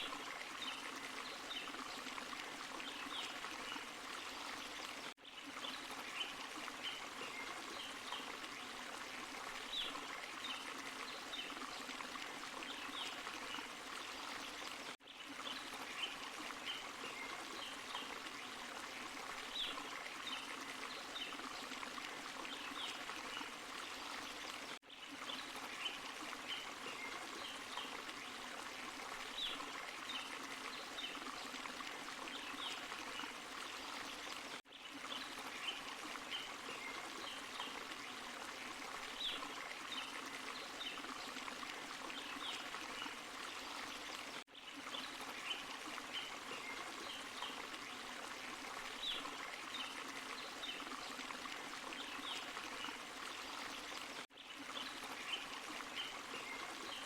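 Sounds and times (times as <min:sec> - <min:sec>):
running stream water: 0:00.0 - 0:57.0
water splashes: 0:00.0 - 0:57.0.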